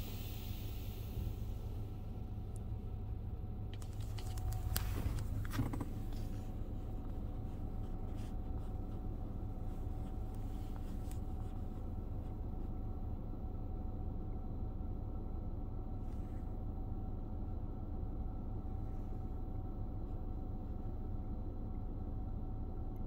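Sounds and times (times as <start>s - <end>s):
car wash machinery hum: 0.0s - 23.0s.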